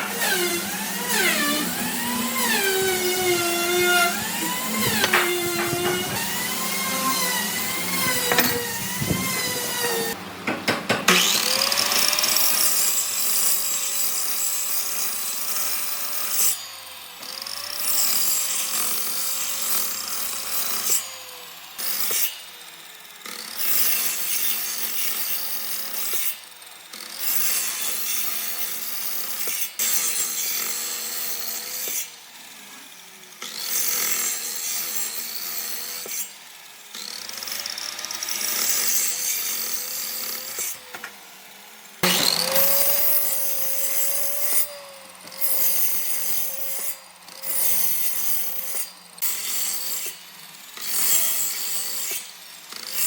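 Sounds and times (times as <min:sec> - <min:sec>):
power tool motor whine: 0:00.0 - 0:10.2, 0:11.1 - 0:24.0, 0:25.7 - 0:52.9.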